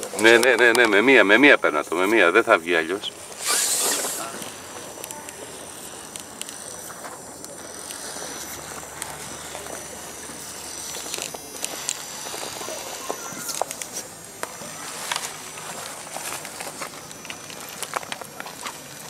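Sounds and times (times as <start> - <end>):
motor and gears whining: 0.0 - 19.0
tyres clicking and scraping on stone: 3.0 - 19.0.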